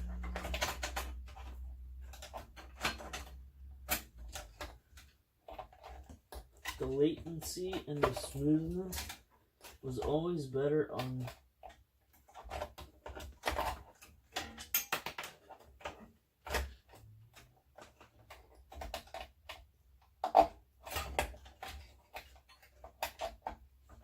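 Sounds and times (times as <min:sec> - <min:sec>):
clicks and knocks handling hardware: 0:00.0 - 0:10.3, 0:10.9 - 0:24.0.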